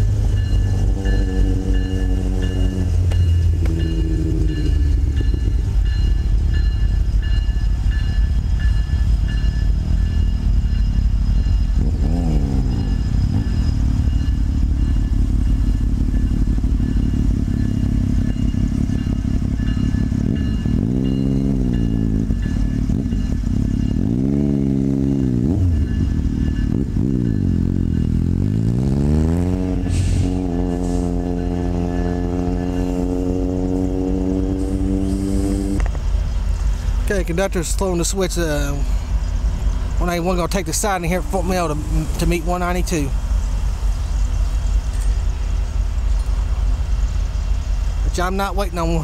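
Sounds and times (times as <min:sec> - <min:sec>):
diesel locomotive engine rumble: 0:00.0 - 0:49.0.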